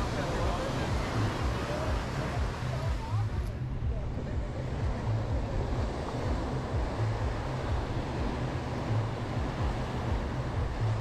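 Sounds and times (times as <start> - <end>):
waves washing onto beach: 0.0 - 11.0.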